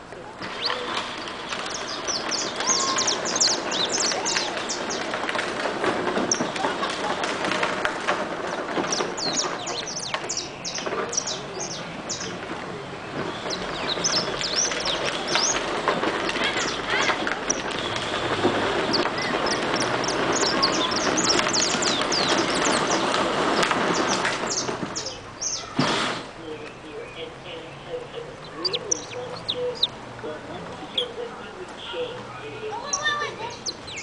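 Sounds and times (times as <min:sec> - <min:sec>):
steady rumble: 0:00.0 - 0:25.5, 0:26.2 - 0:34.0
small birds chirping: 0:00.2 - 0:08.0, 0:08.6 - 0:34.0.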